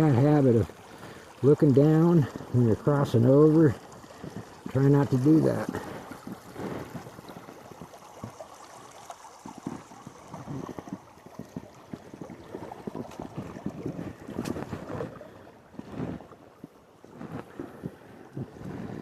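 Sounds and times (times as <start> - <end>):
flowing river water: 0.0 - 19.0
footsteps wading in water: 0.0 - 19.0.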